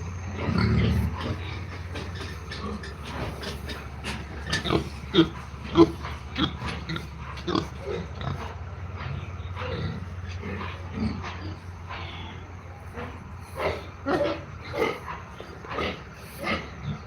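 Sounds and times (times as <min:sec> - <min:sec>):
pigs calling: 0:00.0 - 0:17.0.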